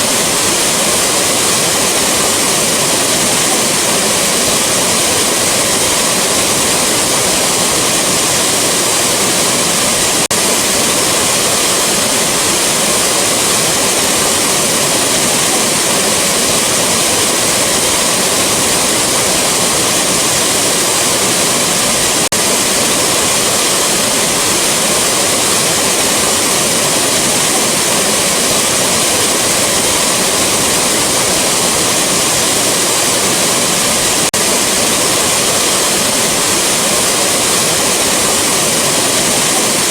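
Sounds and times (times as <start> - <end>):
rushing waterfall: 0.0 - 39.9.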